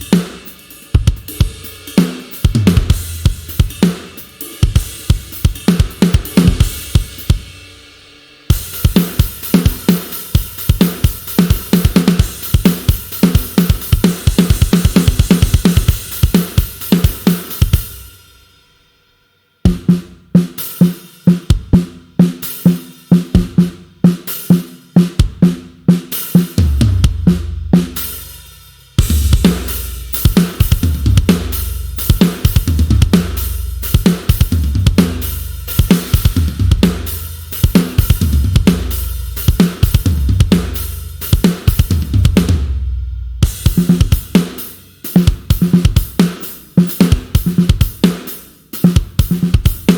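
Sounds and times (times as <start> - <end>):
rock drum kit: 0.0 - 18.5, 19.6 - 49.9.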